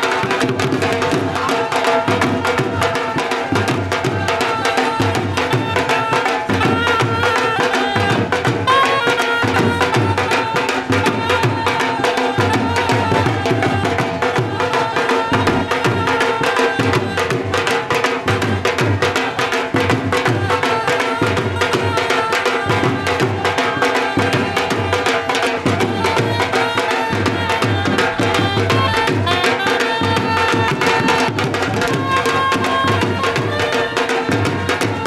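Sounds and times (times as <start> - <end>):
drums playing fast rhythm: 0.0 - 35.0.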